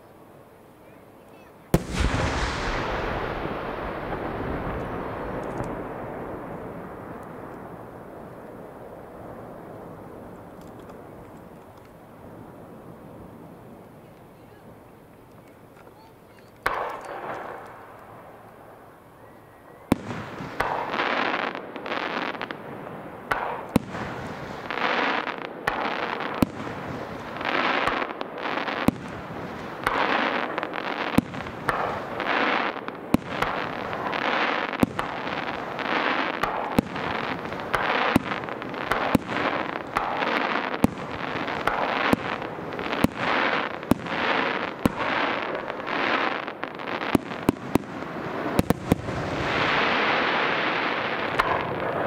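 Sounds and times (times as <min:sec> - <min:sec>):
crackle of bursting stars: 0:01.3 - 0:52.0
fireworks bangs: 0:01.3 - 0:52.0.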